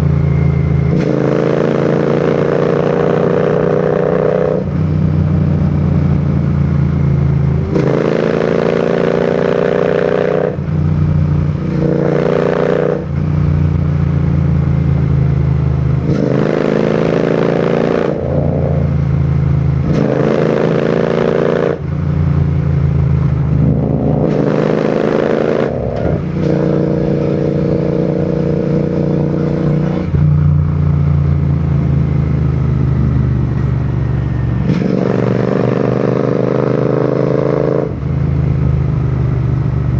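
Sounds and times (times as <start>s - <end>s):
motorcycle engine revving on the move: 0.0s - 39.9s.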